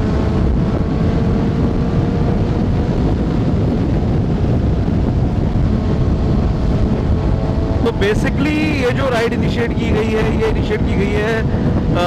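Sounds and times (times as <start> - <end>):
motorcycle engine hum: 0.0 - 12.0
wind rush on microphone: 0.0 - 12.0.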